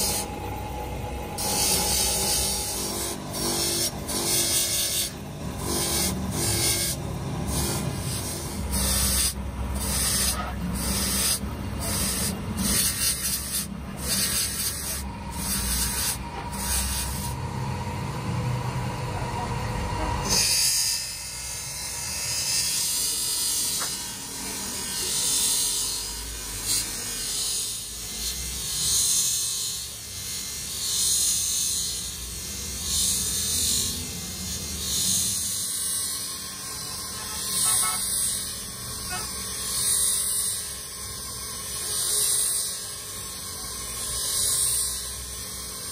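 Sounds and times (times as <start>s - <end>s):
metal grinding on polishing wheel: 0.0s - 17.4s, 20.2s - 45.9s.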